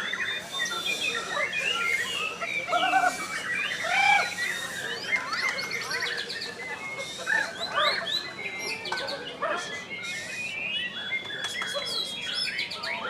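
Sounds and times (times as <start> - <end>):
long held bird whistle: 0.0 - 8.8, 9.6 - 13.0
birds singing varied whistles: 0.0 - 13.0.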